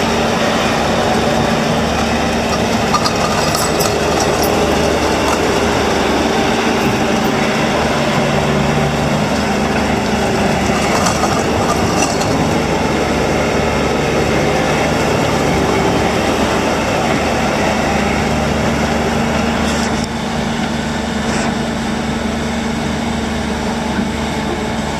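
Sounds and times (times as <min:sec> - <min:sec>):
diesel engine running with clatter: 0:00.0 - 0:24.9.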